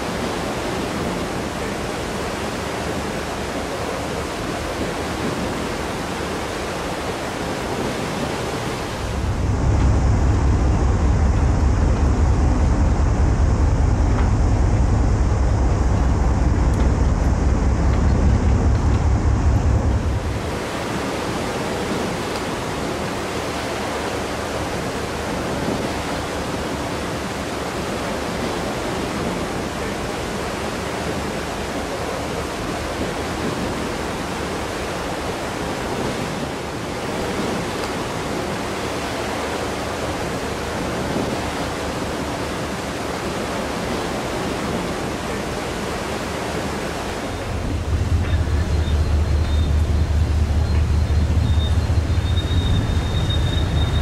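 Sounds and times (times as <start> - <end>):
deep ferry engine rumble: 0.0 - 54.0
rush of wind and sea: 0.0 - 54.0.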